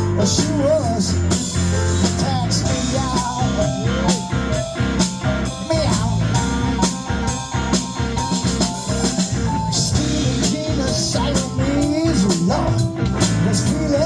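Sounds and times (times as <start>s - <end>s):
blues-rock guitar: 0.0s - 14.0s
drum kit beat: 0.0s - 14.0s.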